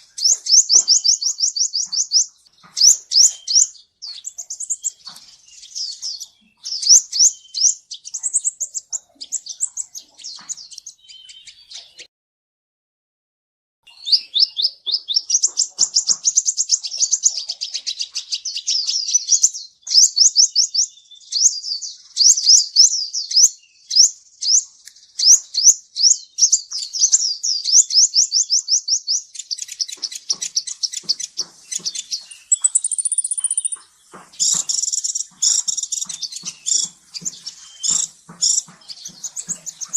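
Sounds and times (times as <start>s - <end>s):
bird singing high chirps: 0.0s - 12.1s, 13.8s - 39.9s.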